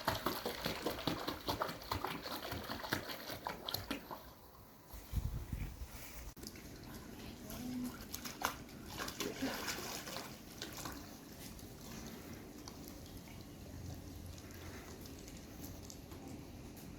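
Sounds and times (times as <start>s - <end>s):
water splashing as dogs swim: 0.0s - 4.8s, 6.3s - 16.9s.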